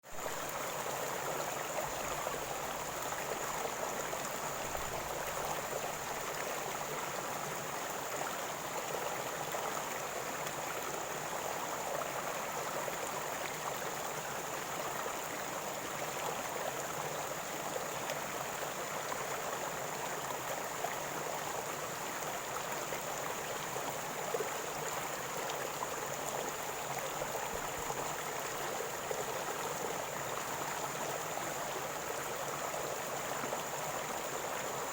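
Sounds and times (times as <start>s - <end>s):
river water flowing and gurgling: 0.1s - 34.9s.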